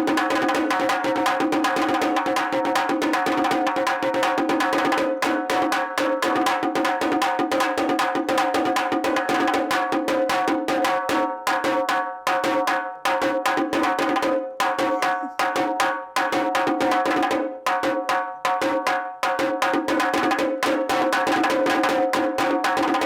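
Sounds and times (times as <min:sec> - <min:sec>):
frame drum beaten fast with sticks: 0:00.0 - 0:23.0.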